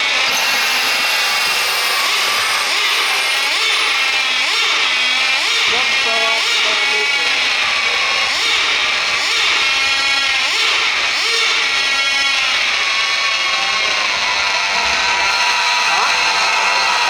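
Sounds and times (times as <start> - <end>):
rc truck motors whining: 0.0 - 17.0.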